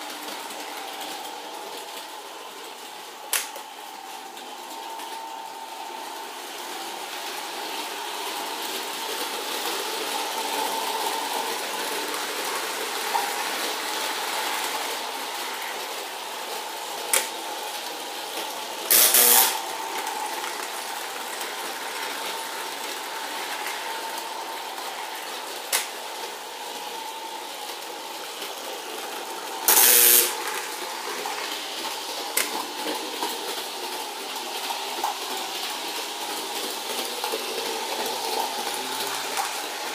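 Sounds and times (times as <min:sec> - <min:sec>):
toy train motor humming: 0:00.0 - 0:39.9.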